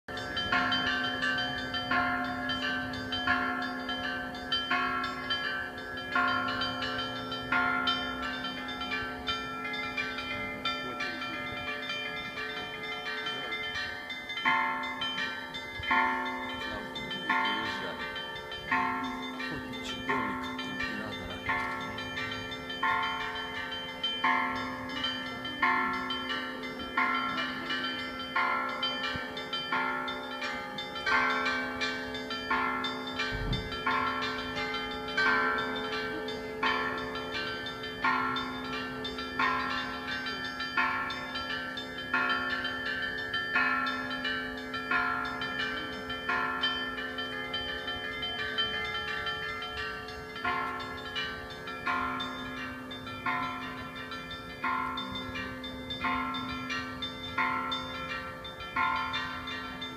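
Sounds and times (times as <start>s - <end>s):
higher church bells ringing: 0.1s - 59.9s.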